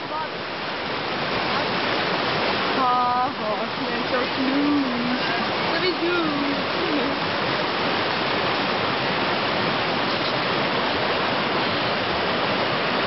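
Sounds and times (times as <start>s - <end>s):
river water roaring over rocks: 0.0s - 13.0s.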